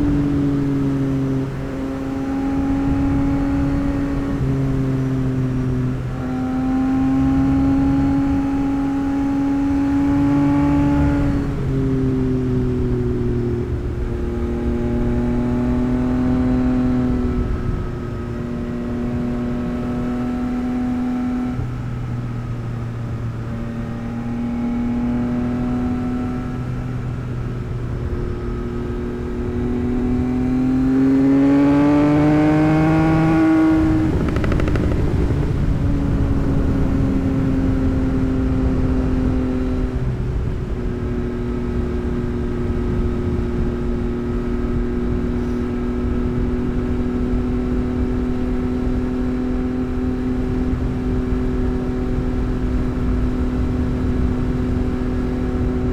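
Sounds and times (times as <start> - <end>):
motorcycle engine and exhaust: 0.0 - 55.9.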